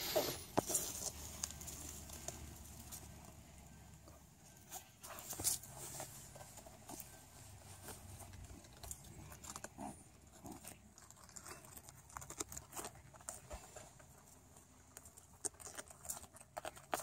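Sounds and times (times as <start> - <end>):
rabbits gnawing cabbage: 0.0 - 17.0.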